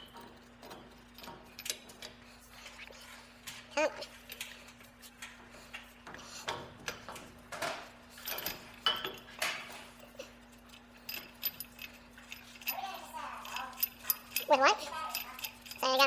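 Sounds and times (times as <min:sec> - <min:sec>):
metal tools clinking: 0:00.0 - 0:16.0.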